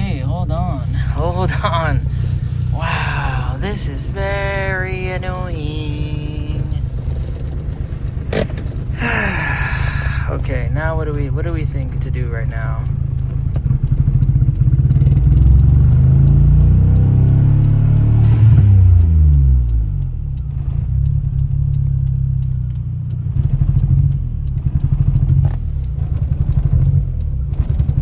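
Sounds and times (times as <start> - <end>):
car engine sputtering under throttle: 0.0 - 28.0.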